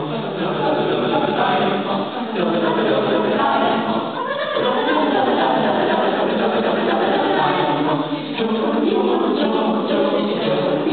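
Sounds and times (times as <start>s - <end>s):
choir singing: 0.0s - 10.9s.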